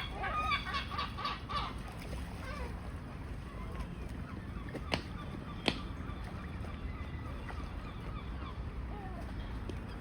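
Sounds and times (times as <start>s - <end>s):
seagulls and waterfowl calling: 0.0s - 10.0s.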